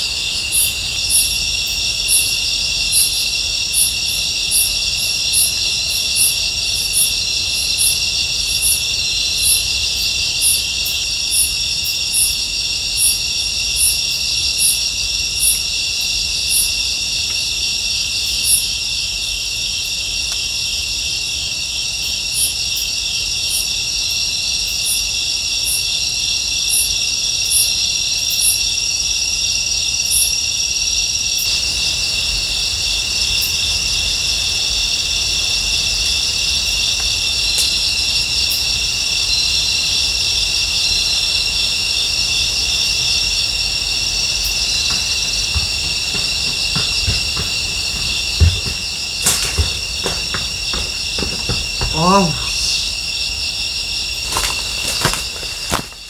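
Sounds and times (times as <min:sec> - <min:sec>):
cricket chorus: 0:00.0 - 0:56.0
high single insect chirp: 0:00.0 - 0:56.0.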